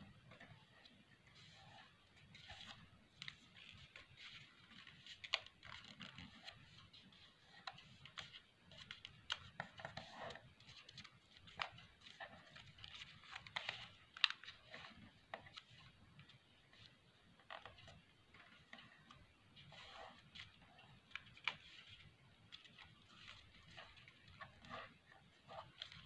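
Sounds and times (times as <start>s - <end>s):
paper rustling and crackling: 0.2s - 26.0s.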